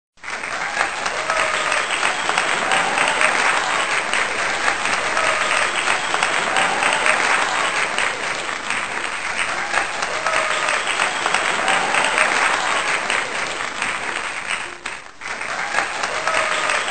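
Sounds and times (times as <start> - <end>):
crowd clapping: 0.2 - 16.9.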